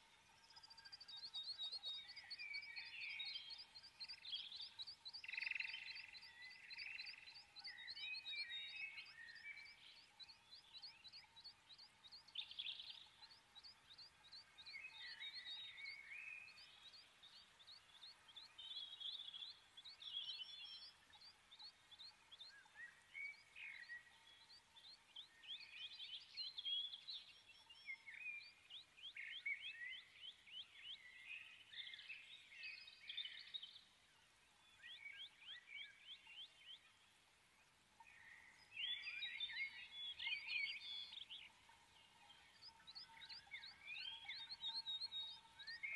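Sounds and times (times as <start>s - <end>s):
faint birdsong trills: 0.0s - 45.9s.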